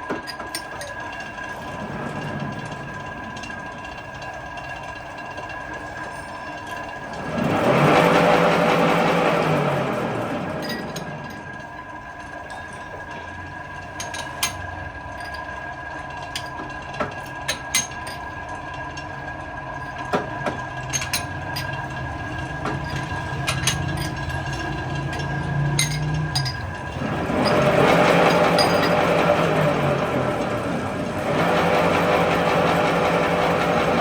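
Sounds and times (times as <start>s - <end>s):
workshop machine whining: 0.0s - 34.0s.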